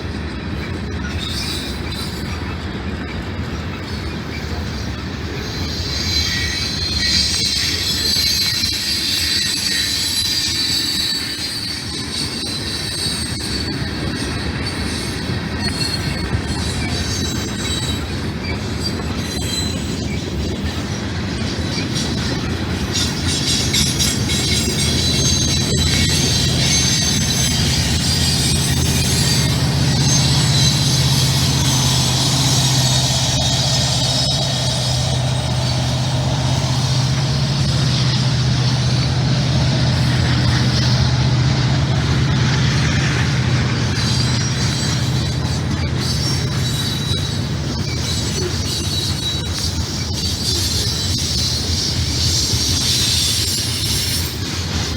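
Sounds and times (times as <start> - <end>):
freight train rumbling past: 0.0 - 54.9
train wheels squealing: 0.0 - 54.9.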